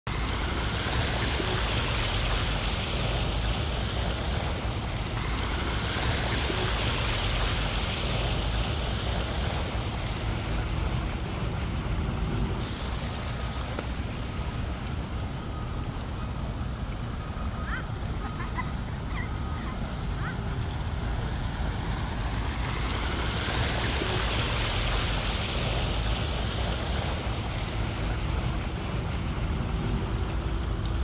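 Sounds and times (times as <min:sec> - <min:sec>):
rushing water: 0:00.0 - 0:31.0
wind: 0:00.0 - 0:31.0.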